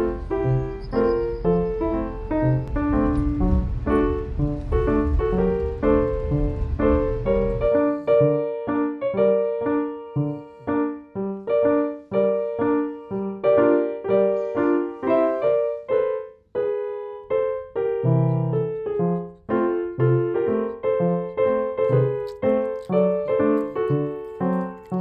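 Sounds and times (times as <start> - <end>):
light keyboard tune: 0.0 - 25.0.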